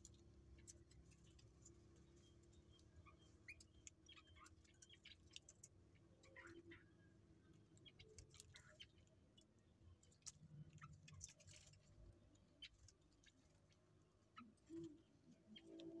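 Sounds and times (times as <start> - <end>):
birds pecking at feed: 0.0 - 16.0.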